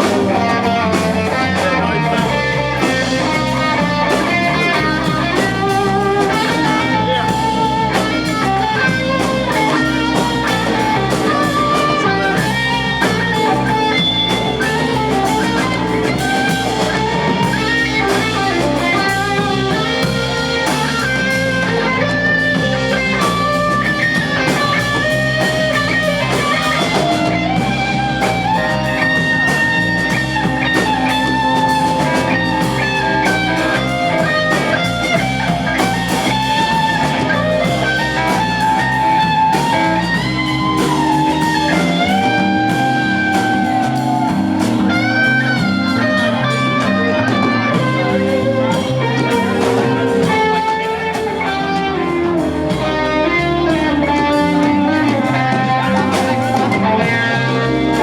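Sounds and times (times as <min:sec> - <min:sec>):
drums: 0:00.0 - 0:58.0
electric guitar: 0:00.0 - 0:58.0.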